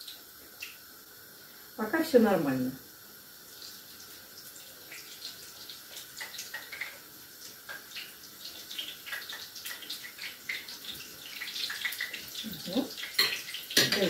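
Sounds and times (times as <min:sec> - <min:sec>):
dough frying in hot oil: 0:00.0 - 0:14.0.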